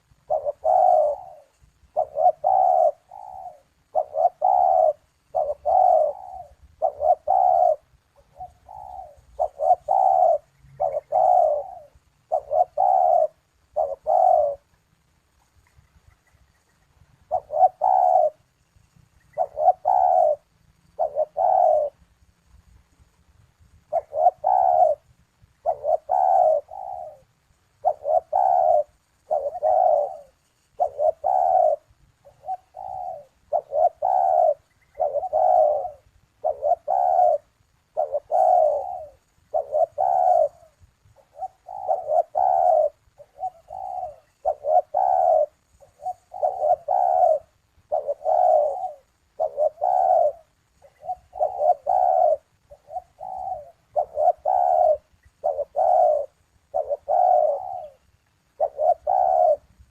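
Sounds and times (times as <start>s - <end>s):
doves cooing: 0.0s - 22.2s, 23.8s - 59.9s.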